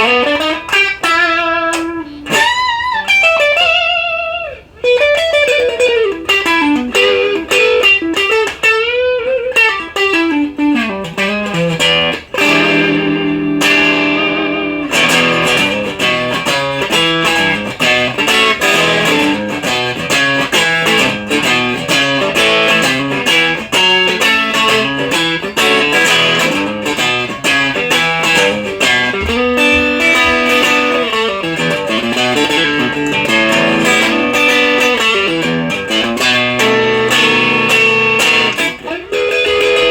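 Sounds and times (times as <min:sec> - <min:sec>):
overdriven electric guitar lead: 0:00.0 - 0:39.9.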